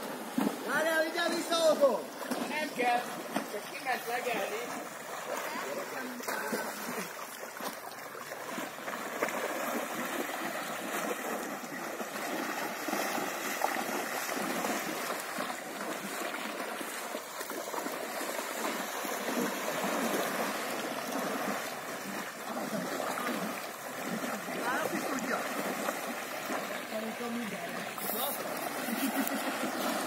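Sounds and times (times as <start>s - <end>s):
water sloshing as horses wade: 0.0s - 30.0s.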